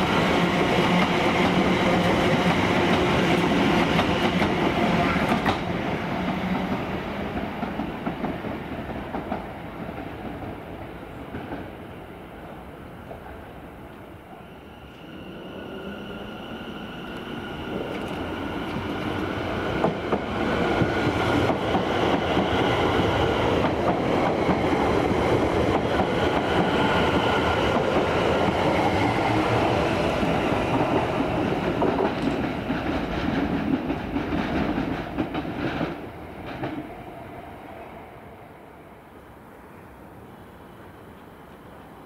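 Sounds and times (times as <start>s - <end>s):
electric train running past: 0.0s - 42.0s.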